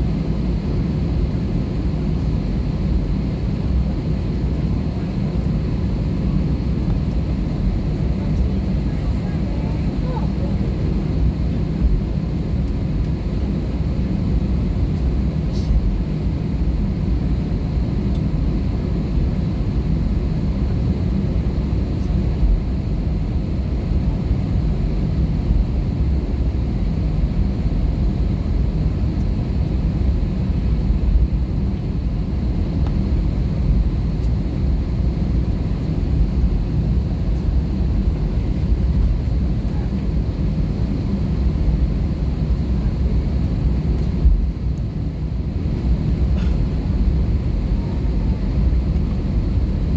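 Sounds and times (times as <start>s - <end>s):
airplane cabin engine rumble: 0.0s - 49.9s.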